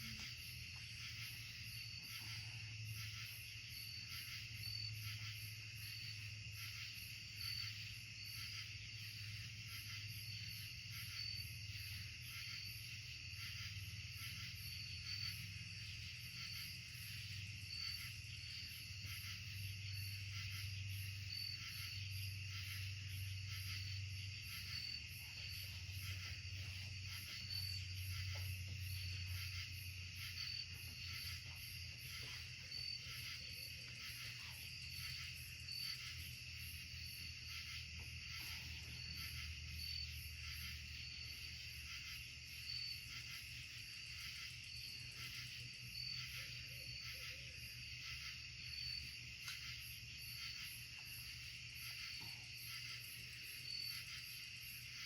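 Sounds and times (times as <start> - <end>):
crickets trilling: 0.0 - 55.0
high insect chirp: 0.0 - 55.0.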